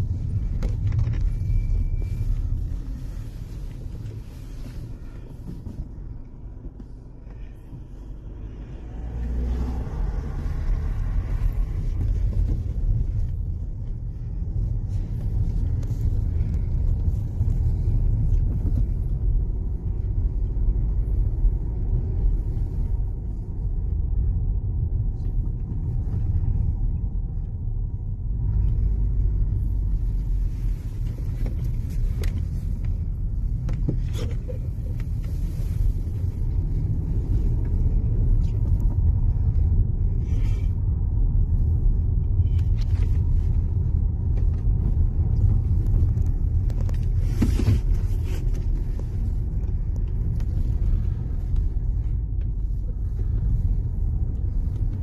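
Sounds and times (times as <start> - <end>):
car engine rumble: 0.0 - 55.0
tyres on road: 0.0 - 55.0.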